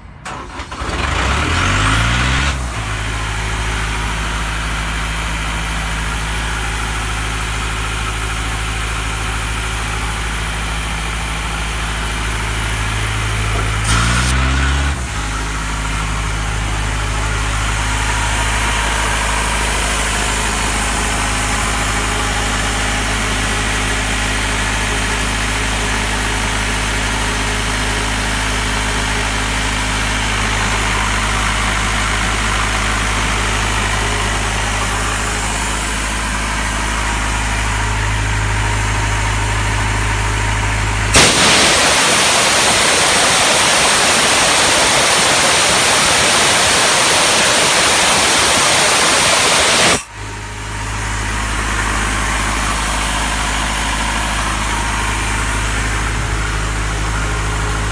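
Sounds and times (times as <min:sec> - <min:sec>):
diesel air compressor running: 0:00.0 - 0:57.9.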